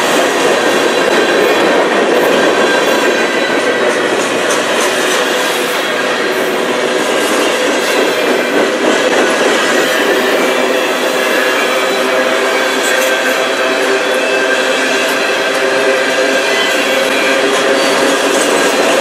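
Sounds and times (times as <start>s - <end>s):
clickety-clack over rail joints: 0.0s - 19.0s
train wheels rumbling on rail: 0.0s - 19.0s.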